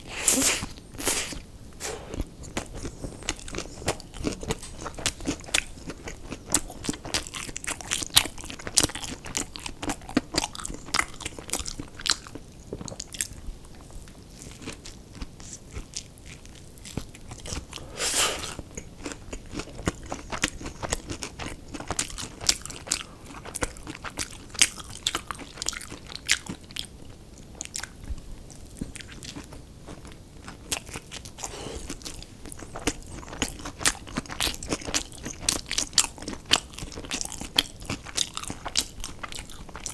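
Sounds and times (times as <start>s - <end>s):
person chewing crunchy food: 0.0s - 13.4s, 14.4s - 39.9s.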